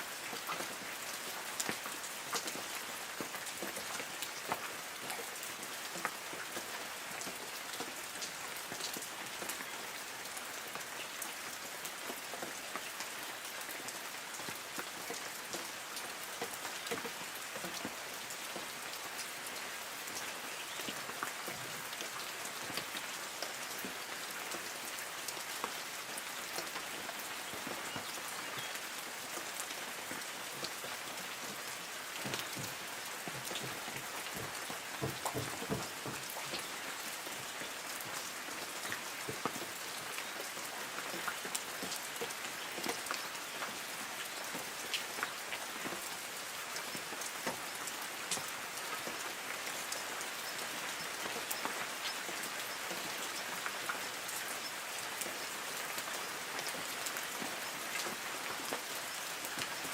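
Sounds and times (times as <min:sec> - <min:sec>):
light rain on trees: 0:00.0 - 0:59.9
raindrops ticking on leaves: 0:00.0 - 0:59.9.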